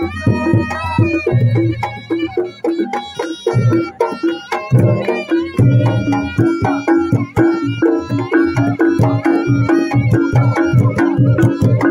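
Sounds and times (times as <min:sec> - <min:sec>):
hand drums beating: 0:00.0 - 0:11.9
tuned percussion melody: 0:00.0 - 0:11.9.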